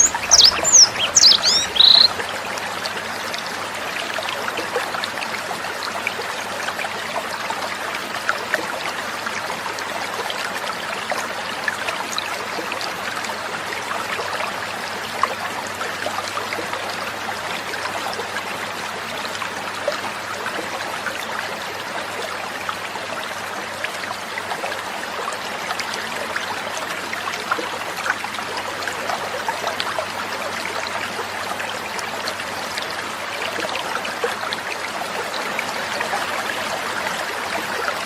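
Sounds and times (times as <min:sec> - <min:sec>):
water trickling and babbling: 0:00.0 - 0:38.0.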